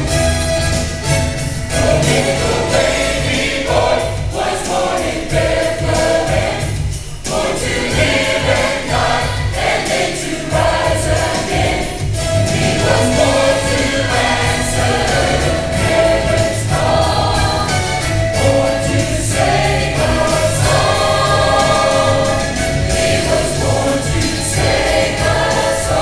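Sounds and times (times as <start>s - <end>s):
church choir singing: 1.7s - 26.0s.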